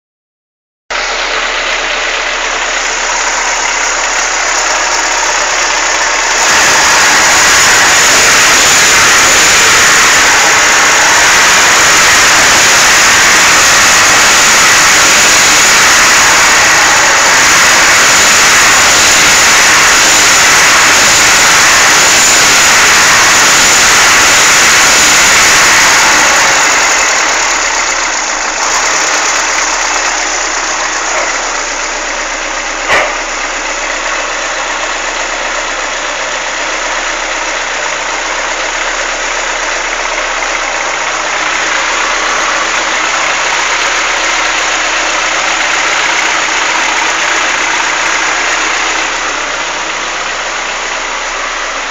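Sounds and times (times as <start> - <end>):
car engine idling: 0.9 - 51.9
engine ticking clatter: 0.9 - 51.9.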